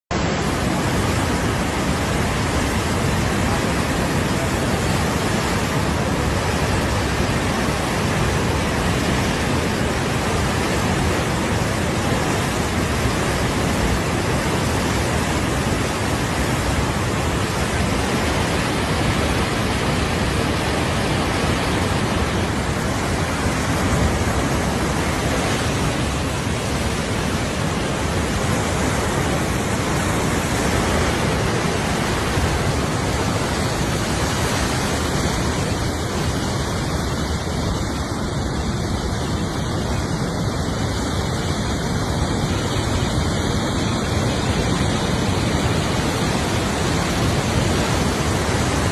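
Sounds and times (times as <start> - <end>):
floodwater rushing roar: 0.1 - 48.9.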